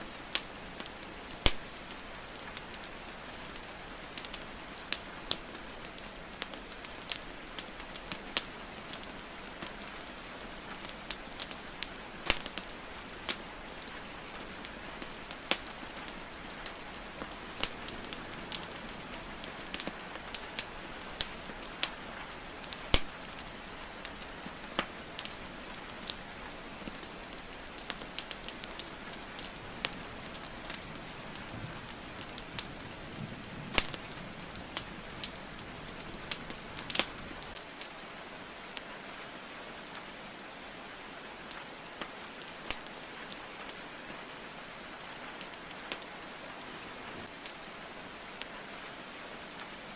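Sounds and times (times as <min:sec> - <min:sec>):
wood fire crackling and popping: 0:00.0 - 0:37.9, 0:41.4 - 0:43.7, 0:45.4 - 0:46.1, 0:47.2 - 0:48.7, 0:49.4 - 0:49.8
rain hissing: 0:00.0 - 0:49.9.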